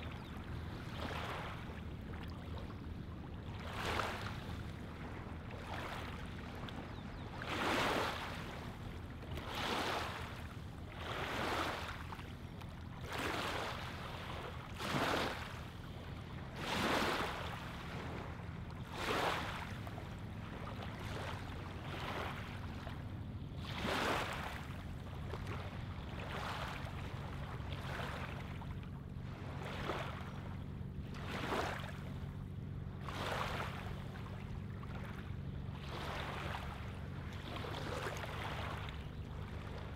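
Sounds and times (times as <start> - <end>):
small waves lapping on shore: 0.0 - 39.9
steady low hum: 0.0 - 39.9.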